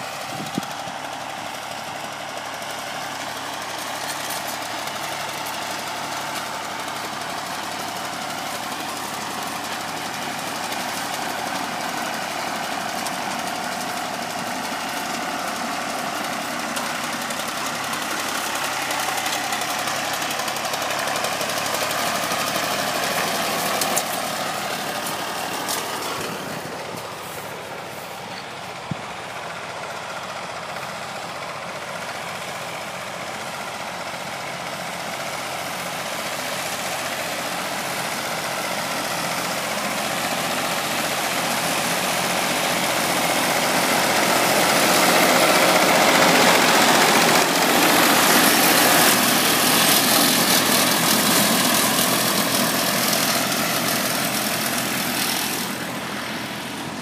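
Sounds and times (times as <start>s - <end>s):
tractor engine: 0.0s - 57.0s.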